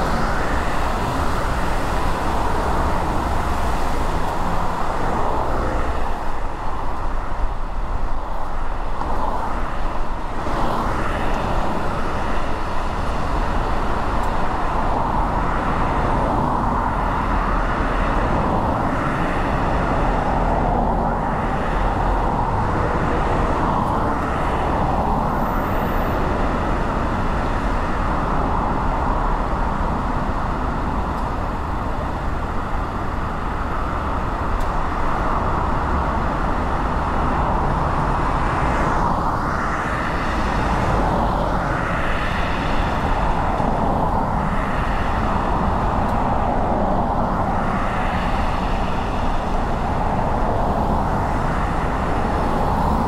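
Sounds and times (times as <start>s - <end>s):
car road noise rumble: 0.0s - 53.0s
surrounding traffic: 0.0s - 53.0s.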